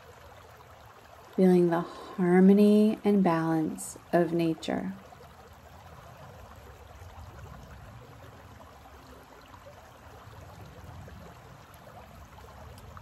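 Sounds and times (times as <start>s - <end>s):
water rushing over stones: 0.0s - 13.0s.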